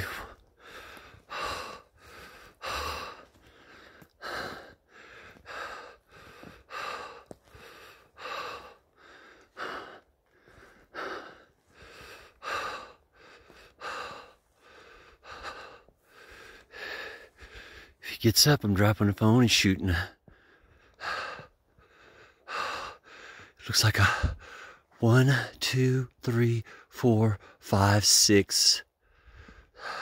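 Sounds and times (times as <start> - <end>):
man breathing heavily: 0.0 - 27.7, 28.5 - 30.0.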